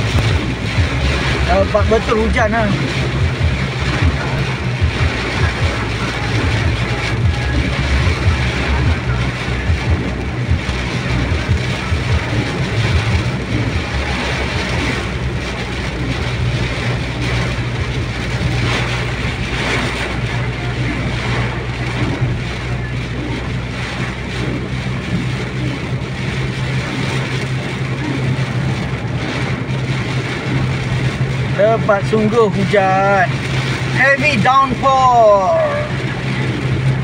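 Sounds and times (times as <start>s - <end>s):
car engine and road hum: 0.0s - 37.0s.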